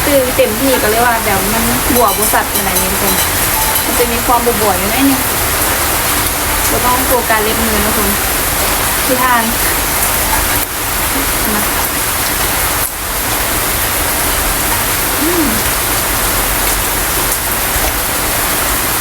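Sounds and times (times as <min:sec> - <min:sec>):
rain: 0:00.0 - 0:19.0.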